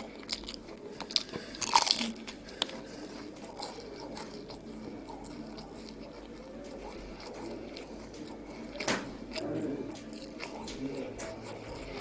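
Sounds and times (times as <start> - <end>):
pastry crunching while chewed: 0.0 - 12.0.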